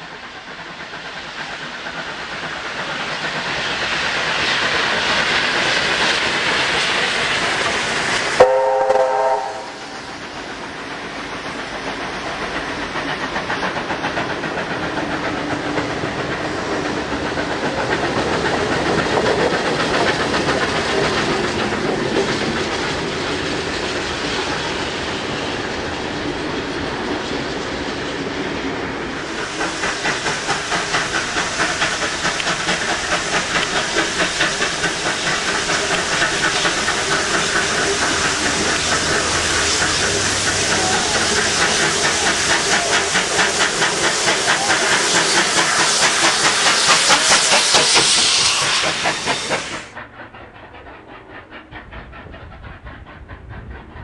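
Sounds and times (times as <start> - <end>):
steam locomotive chuffing: 0.0 - 54.0
steam locomotive hissing roar: 0.0 - 54.0.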